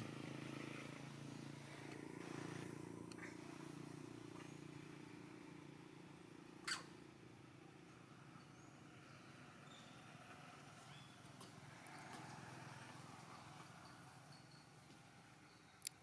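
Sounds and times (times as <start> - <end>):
faint forest ambience: 0.0 - 16.0.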